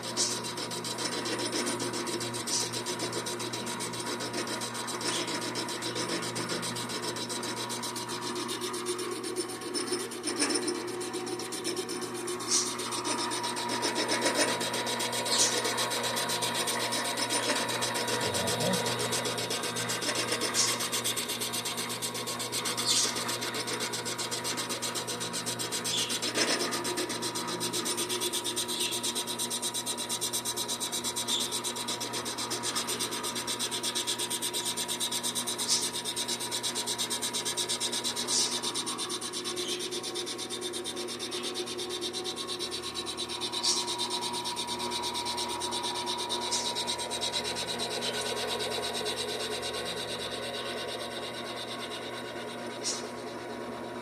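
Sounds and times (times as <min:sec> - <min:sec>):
cutting tool scraping aluminum: 0:00.0 - 0:53.2
metal lathe running: 0:00.0 - 0:54.0.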